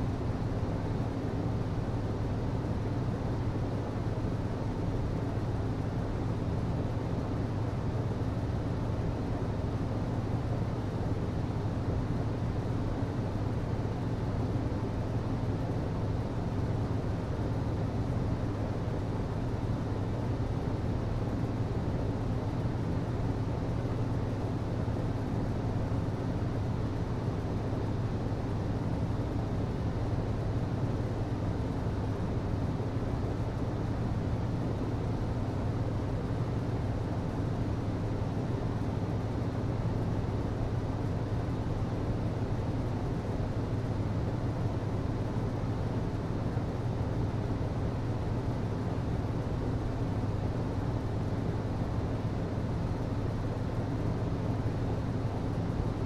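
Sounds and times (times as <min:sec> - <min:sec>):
hvac low hum: 0:00.0 - 0:56.0.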